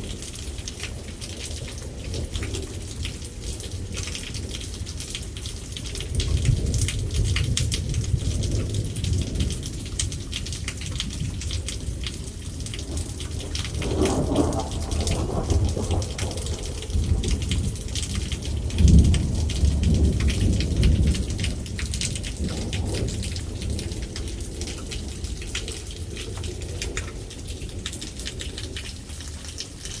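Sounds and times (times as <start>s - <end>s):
low rolling thunder: 0.0s - 29.6s
steady rain falling: 0.0s - 30.0s.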